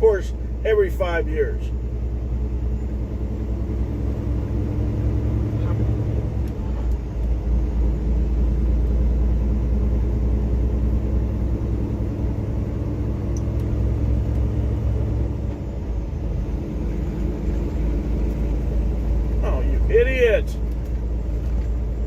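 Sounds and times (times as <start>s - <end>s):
truck diesel engine drone: 0.0s - 22.0s.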